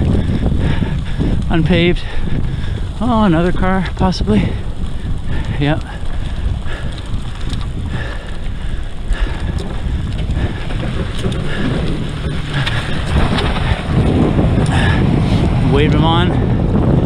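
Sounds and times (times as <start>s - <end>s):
tyres rolling on wet gravel: 0.0s - 17.0s
wind buffeting microphone: 0.0s - 17.0s.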